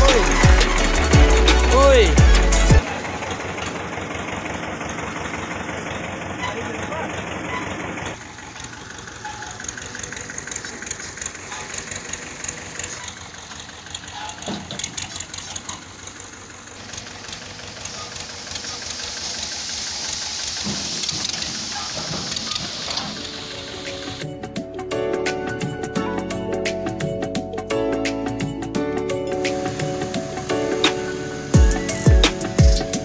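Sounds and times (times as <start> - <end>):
diesel tractor engine idling: 0.0 - 33.0.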